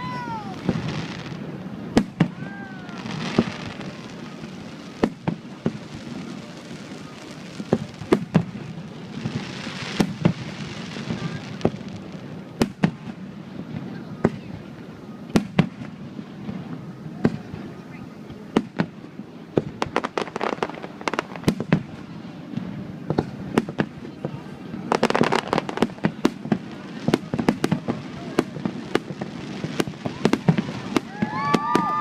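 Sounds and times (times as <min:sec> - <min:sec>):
fireworks banging: 0:00.0 - 0:32.0
fireworks crackling: 0:00.0 - 0:32.0.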